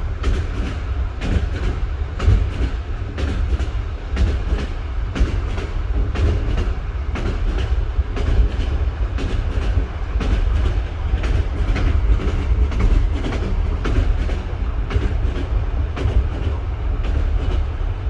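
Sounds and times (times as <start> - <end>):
low rumble of moving train: 0.0 - 18.0
train wheels clickety-clack: 0.0 - 18.0.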